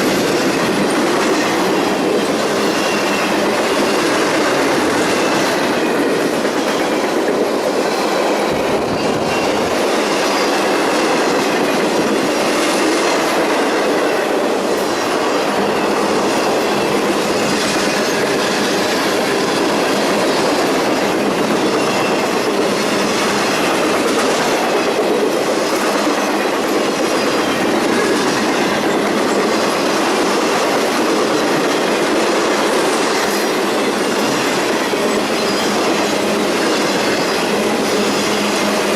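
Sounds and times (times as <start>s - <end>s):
train wheels clacking over rail joints: 0.0s - 38.9s.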